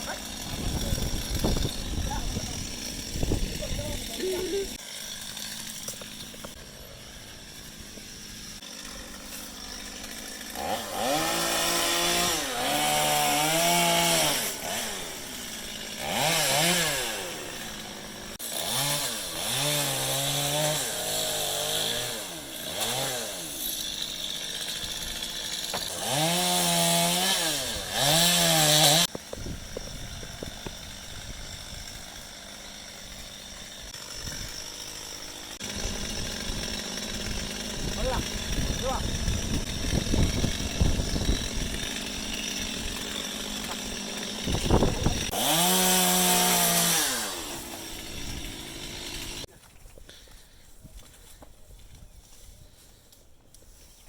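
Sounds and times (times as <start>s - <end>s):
chainsaw revving: 0.0s - 49.5s.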